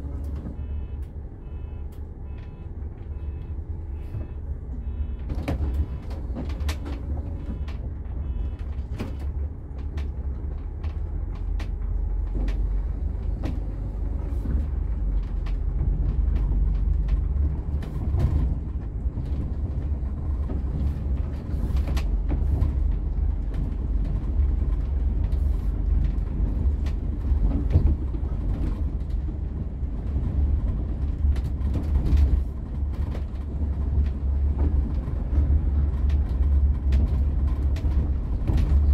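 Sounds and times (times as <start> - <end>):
bus engine and road drone: 0.0 - 38.9.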